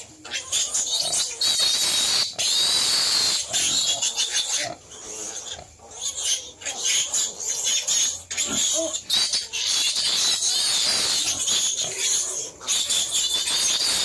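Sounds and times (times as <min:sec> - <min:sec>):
pigs squealing: 0:00.0 - 0:14.0.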